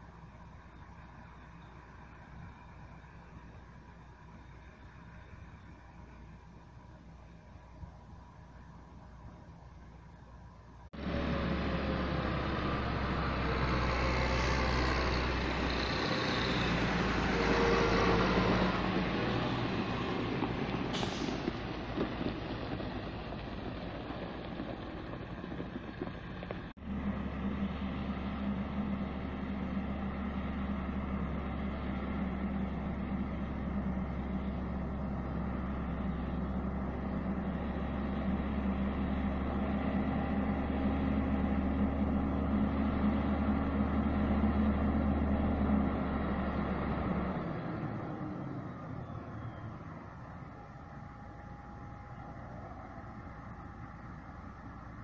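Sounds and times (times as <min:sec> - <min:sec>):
diesel locomotive engine: 0:00.0 - 0:55.0
tractor engine and tyre noise: 0:00.0 - 0:55.0.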